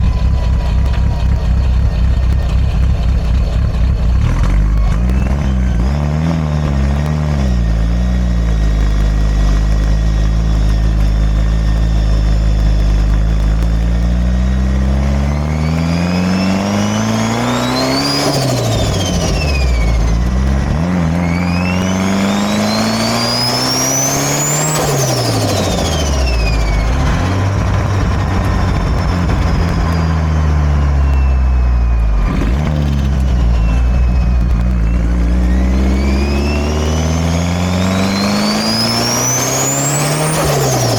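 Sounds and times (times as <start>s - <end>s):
car engine pulling under load: 0.0s - 40.9s
turbo whine: 0.0s - 40.9s.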